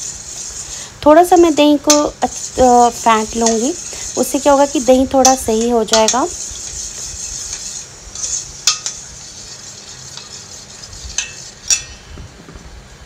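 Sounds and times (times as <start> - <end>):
spoon whisking wet swishing: 0.0 - 11.8.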